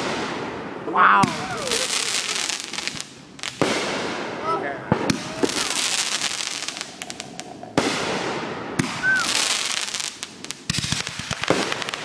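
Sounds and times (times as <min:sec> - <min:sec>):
crackling hiss: 0:00.0 - 0:12.0
fireworks bangs: 0:00.0 - 0:12.0
small firework cracks: 0:01.2 - 0:12.0.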